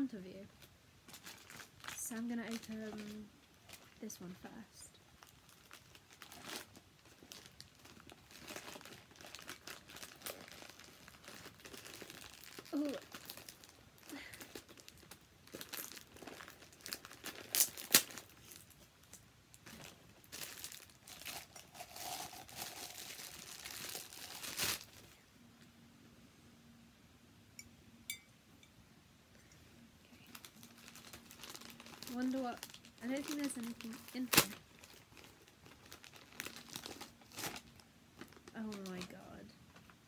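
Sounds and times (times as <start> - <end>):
plastic bag crinkling: 1.1 - 25.2, 30.2 - 40.0
wrapping paper rustling: 1.1 - 25.2, 30.2 - 40.0.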